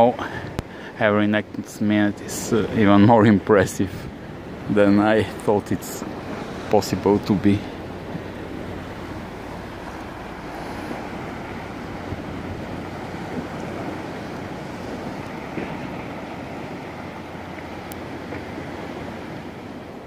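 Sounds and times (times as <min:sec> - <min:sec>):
sea waves washing: 0:00.0 - 0:20.0
wind buffeting microphone: 0:00.0 - 0:20.0.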